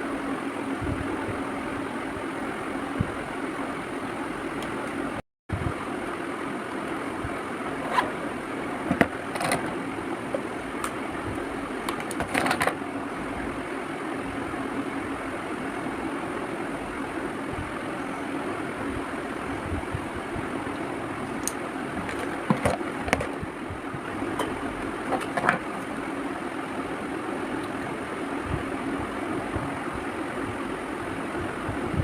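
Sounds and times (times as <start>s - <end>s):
background hum and hiss: 0.0s - 32.0s.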